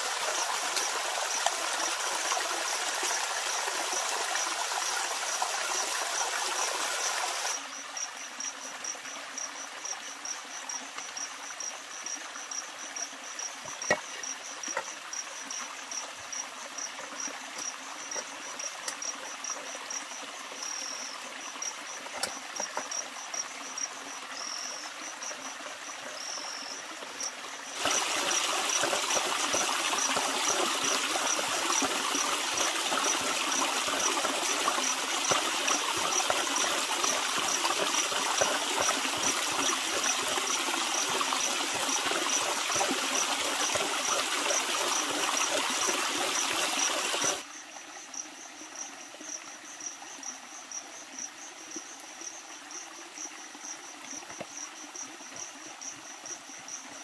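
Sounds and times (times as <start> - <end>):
running water rushing: 0.0 - 48.1
crickets chirping: 0.0 - 57.0.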